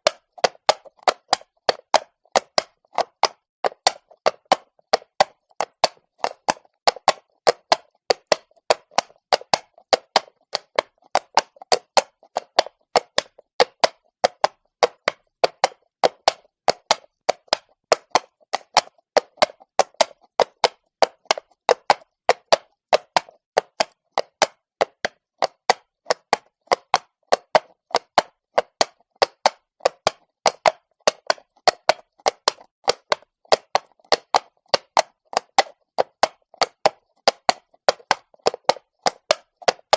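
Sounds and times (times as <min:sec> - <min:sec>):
horse hooves on cobblestones: 0:00.0 - 0:39.9.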